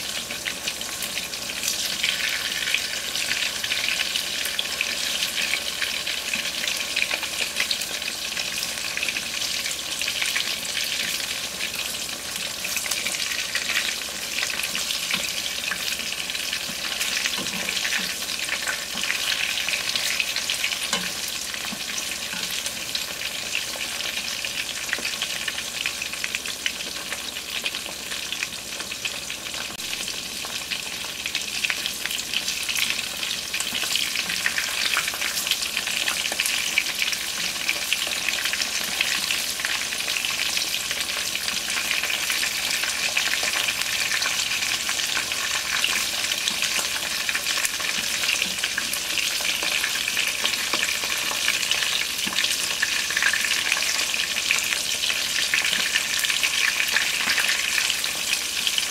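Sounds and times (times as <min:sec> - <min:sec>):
tofu sizzling in hot oil: 0:00.0 - 0:58.9.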